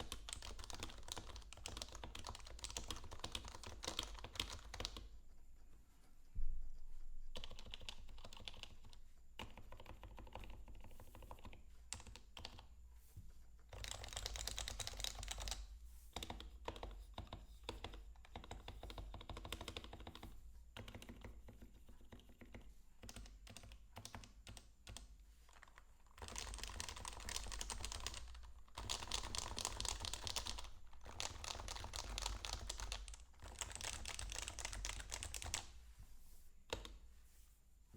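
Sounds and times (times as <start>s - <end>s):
typing on a keyboard: 0.0s - 5.1s, 7.4s - 12.7s, 13.7s - 15.6s, 16.2s - 35.7s, 36.7s - 37.0s.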